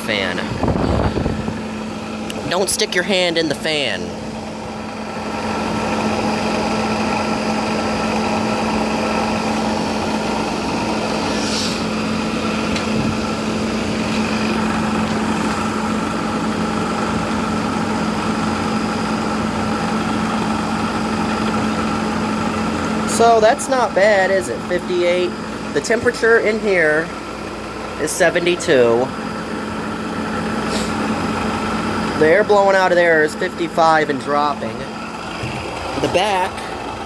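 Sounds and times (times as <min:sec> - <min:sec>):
window air conditioner humming: 0:00.0 - 0:37.0.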